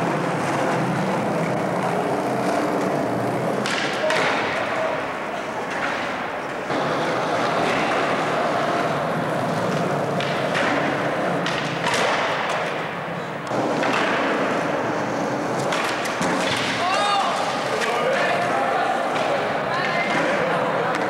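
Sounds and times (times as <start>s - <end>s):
skateboard wheels rolling on concrete: 0.0s - 21.0s.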